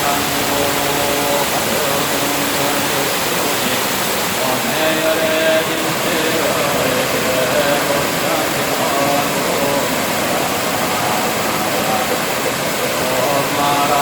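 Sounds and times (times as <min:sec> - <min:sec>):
faint chanting: 0:00.0 - 0:14.0
stream rushing over rocks: 0:00.0 - 0:14.0.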